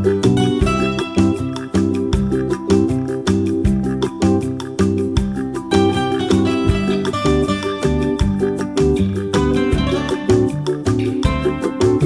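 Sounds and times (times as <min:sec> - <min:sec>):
strummed acoustic guitar music: 0:00.0 - 0:12.0
steady beat: 0:00.2 - 0:12.0.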